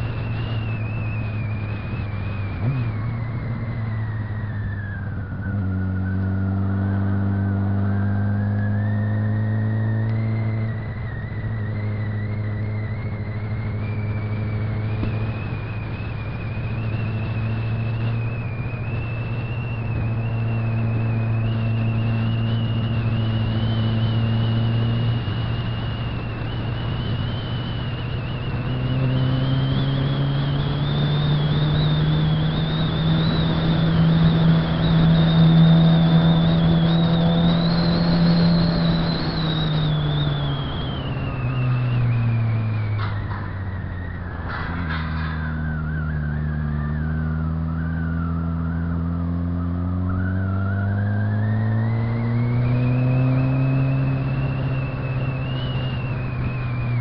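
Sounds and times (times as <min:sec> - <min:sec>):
wind and road noise: 0:00.0 - 0:57.0
thin high whine: 0:08.6 - 0:57.0.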